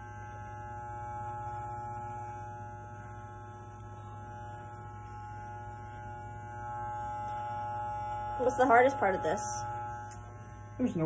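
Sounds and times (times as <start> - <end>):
electric hair clippers humming: 0.0 - 11.0.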